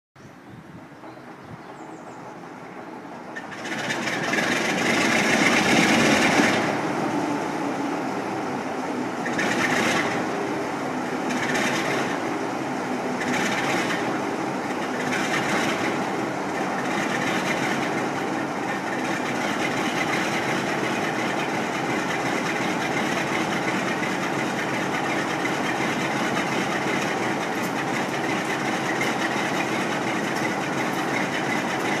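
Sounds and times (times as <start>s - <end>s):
diesel locomotive engine: 0.2s - 32.0s.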